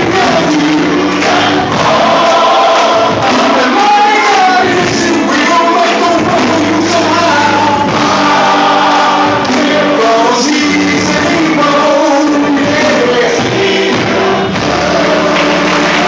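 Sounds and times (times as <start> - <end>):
male chorus singing in harmony: 0.0 - 16.0.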